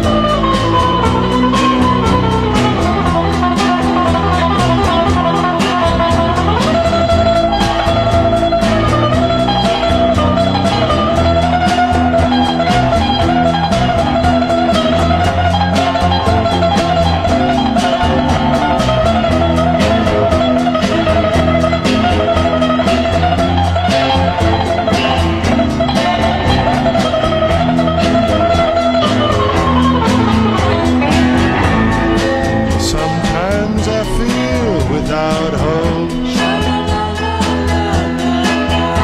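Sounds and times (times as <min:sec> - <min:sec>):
bass and drums beat: 0:00.0 - 0:39.0
electric guitar playing: 0:00.0 - 0:39.0.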